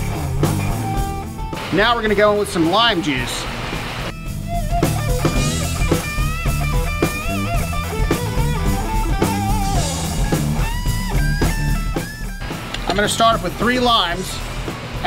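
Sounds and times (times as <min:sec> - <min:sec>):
lead guitar notes: 0:00.0 - 0:14.3
bass: 0:00.0 - 0:15.0
drum kit: 0:00.0 - 0:15.0.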